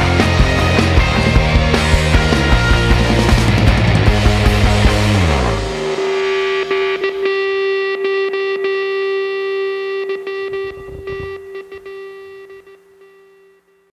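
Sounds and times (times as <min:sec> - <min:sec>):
distorted electric guitar note: 0:00.0 - 0:13.9.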